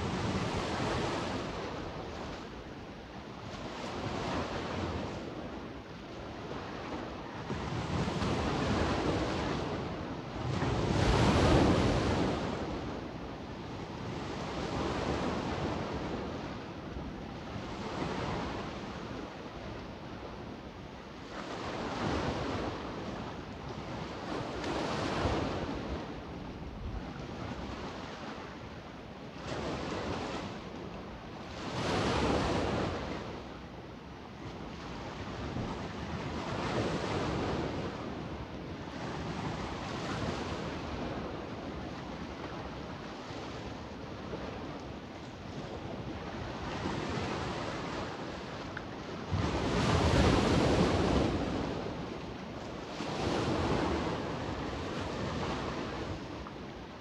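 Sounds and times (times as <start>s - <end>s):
sea waves washing ashore: 0.0s - 57.0s
wind on microphone: 0.0s - 57.0s.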